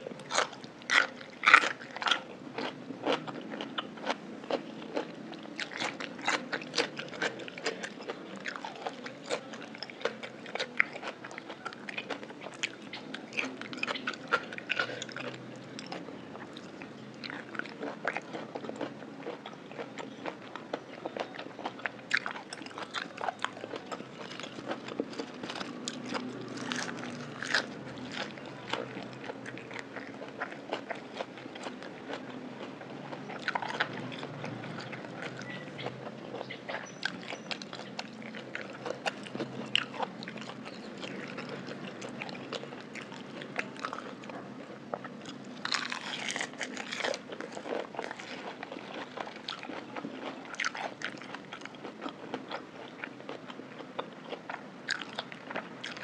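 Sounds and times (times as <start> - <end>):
person chewing: 0.1 - 56.0.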